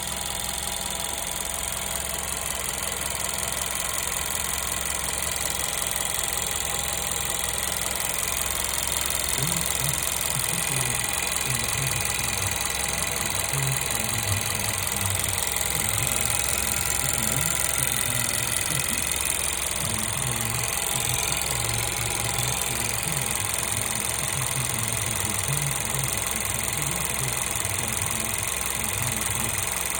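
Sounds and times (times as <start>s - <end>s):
car engine running: 0.0s - 29.9s
rattling whirring mechanical noise: 0.0s - 29.9s.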